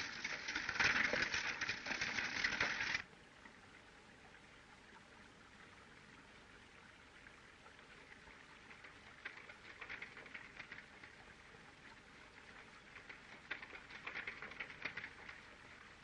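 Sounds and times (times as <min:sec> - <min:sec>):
film soundtrack hiss and crackle: 0:00.0 - 0:16.0.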